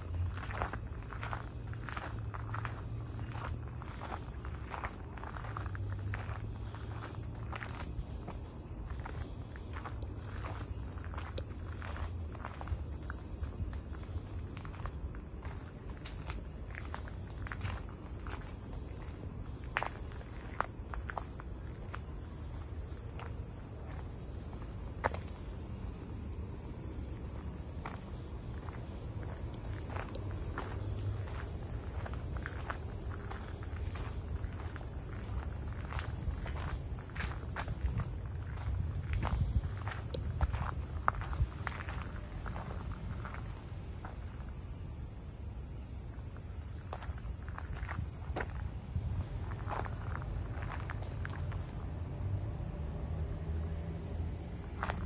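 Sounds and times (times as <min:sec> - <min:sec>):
footsteps on trail: 0:00.0 - 0:25.7, 0:26.5 - 0:44.5, 0:46.7 - 0:51.6
insect chorus trilling: 0:00.0 - 0:55.0.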